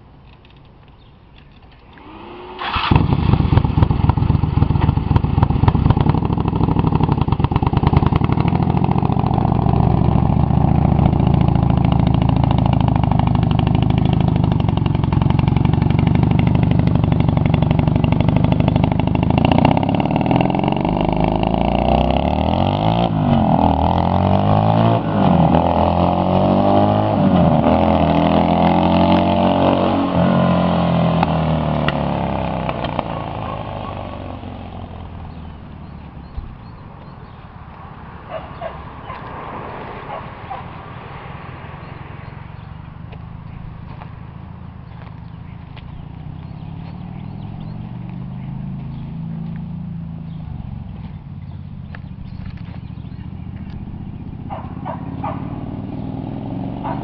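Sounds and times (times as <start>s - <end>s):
golf cart engine revving: 1.8s - 37.4s, 44.4s - 57.0s.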